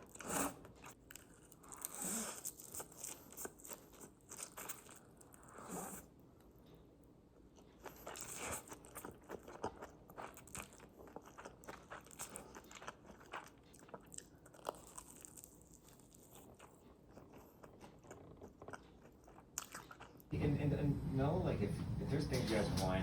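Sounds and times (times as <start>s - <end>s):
crunchy food being chewed: 0.0s - 20.3s.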